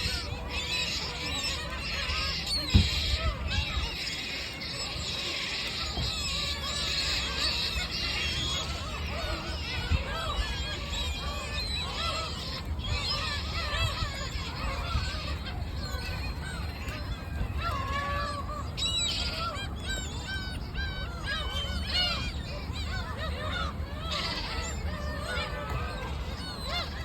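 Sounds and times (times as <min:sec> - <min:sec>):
seagulls calling: 0:00.0 - 0:27.0.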